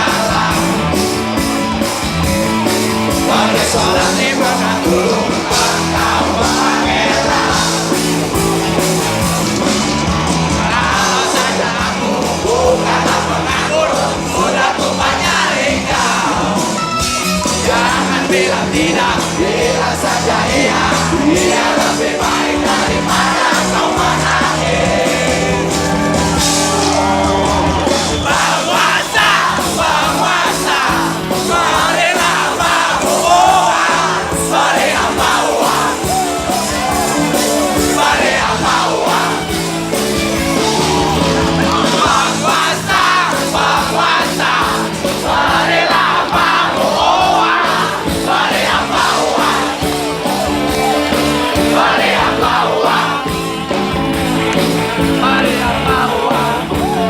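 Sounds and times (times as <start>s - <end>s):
crowd voices: 0.0s - 57.0s
live rock band playing: 0.0s - 57.0s.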